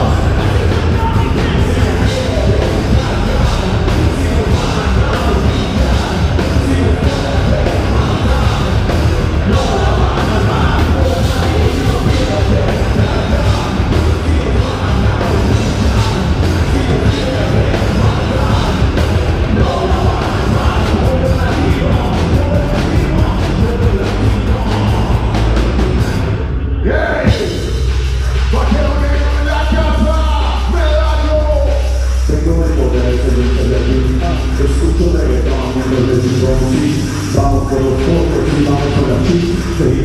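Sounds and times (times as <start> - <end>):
drums hitting a steady beat: 0.0 - 40.0
heavy rock band playing: 0.0 - 40.0.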